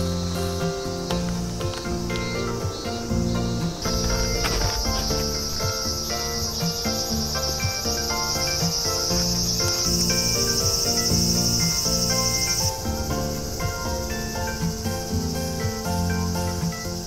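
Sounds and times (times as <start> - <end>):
high insect buzz: 0.0 - 17.0
melodic background music: 0.0 - 17.0.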